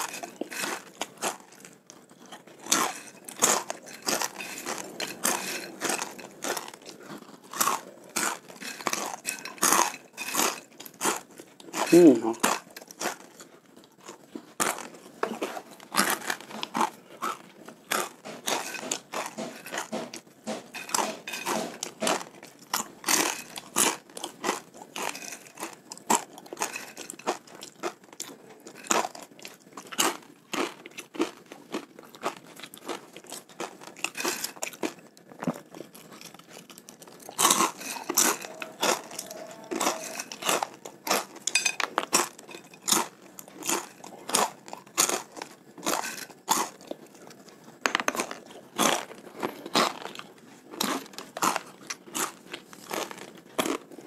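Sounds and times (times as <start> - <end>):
crispy snack crunching: 0.0 - 54.0.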